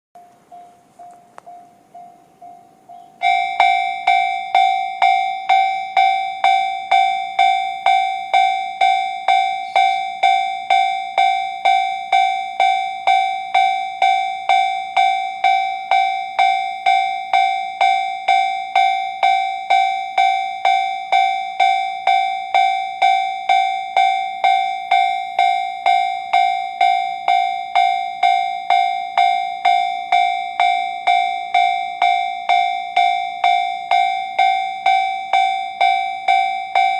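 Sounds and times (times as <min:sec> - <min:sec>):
level crossing bell alarm: 0:00.2 - 0:36.9.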